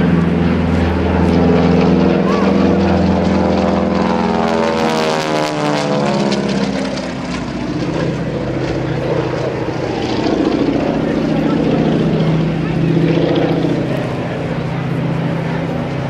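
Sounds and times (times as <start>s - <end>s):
propeller plane flying past: 0.0s - 16.0s.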